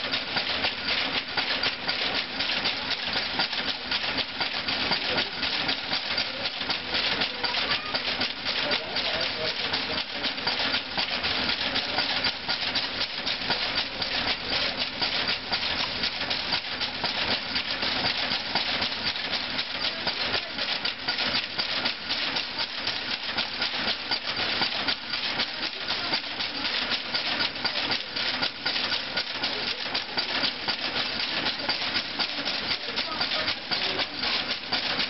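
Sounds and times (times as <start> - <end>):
lace machine clattering: 0.0 - 35.0.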